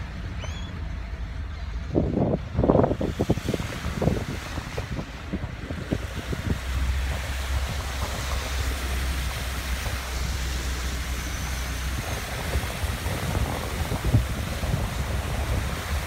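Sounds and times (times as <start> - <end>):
low rumble: 0.0 - 16.0
heavy rain pouring: 2.7 - 16.0.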